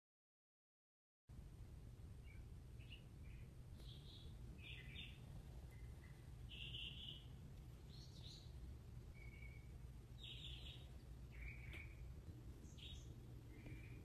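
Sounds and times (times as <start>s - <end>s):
low steady hum: 1.3s - 14.0s
songbird singing: 1.4s - 14.0s.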